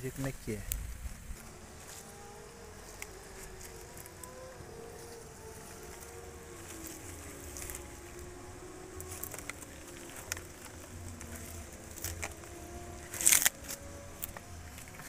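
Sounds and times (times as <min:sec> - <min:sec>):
faint low hum: 0:00.0 - 0:15.0
herb stems rustling and crackling: 0:00.0 - 0:15.0.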